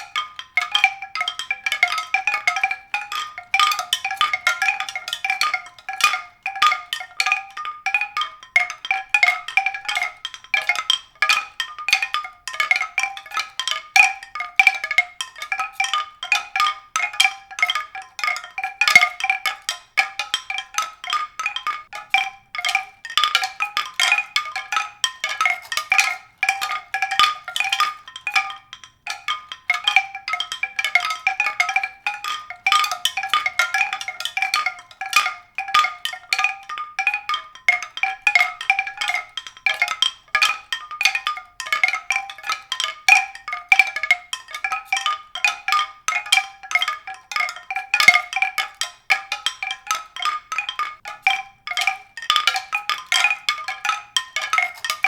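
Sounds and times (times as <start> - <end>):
mallet percussion music: 0.0 - 55.0.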